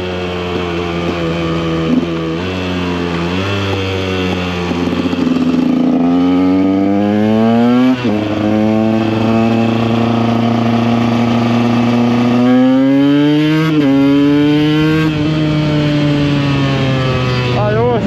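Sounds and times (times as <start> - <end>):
two-stroke motorcycle engine accelerating: 0.0 - 18.0.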